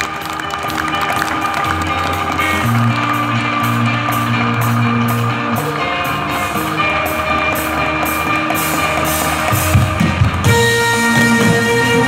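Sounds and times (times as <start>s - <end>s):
band music: 0.0s - 12.0s.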